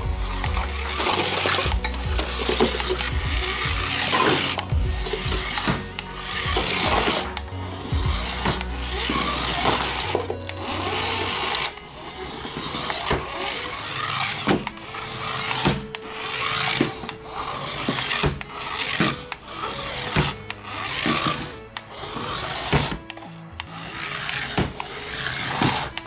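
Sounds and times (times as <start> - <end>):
toy car motor whirring: 0.0 - 26.0.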